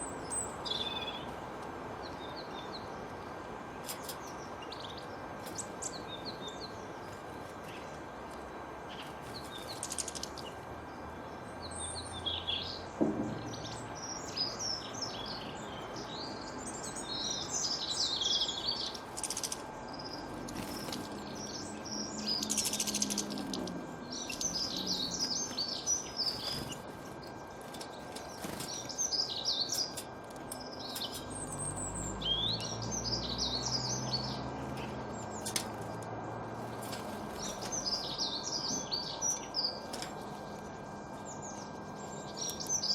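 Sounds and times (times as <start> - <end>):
wild birds chirping: 0.0 - 42.9.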